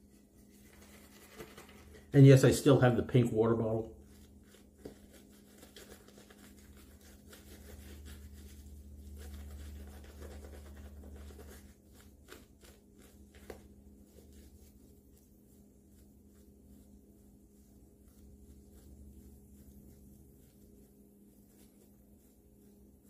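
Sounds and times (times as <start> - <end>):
low steady hum: 0.0 - 23.0
shaving brush bristle strokes: 0.0 - 23.0.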